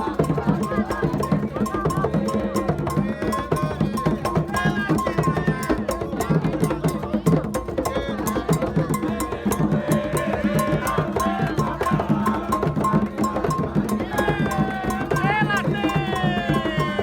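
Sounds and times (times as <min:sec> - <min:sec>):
bell struck in rhythm: 0:00.0 - 0:17.0
drums: 0:00.0 - 0:17.0
voices singing: 0:00.0 - 0:17.0.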